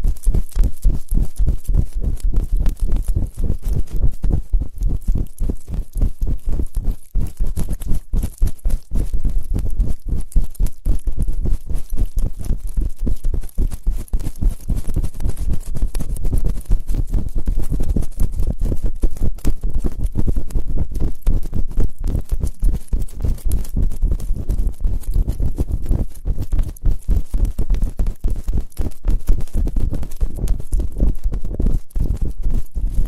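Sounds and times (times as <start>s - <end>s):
scratching and tapping on microphone: 0.0s - 33.0s.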